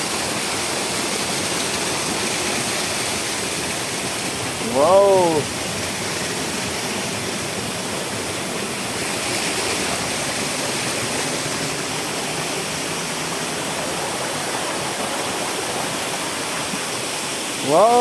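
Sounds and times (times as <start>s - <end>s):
waterfall crashing: 0.0s - 18.0s.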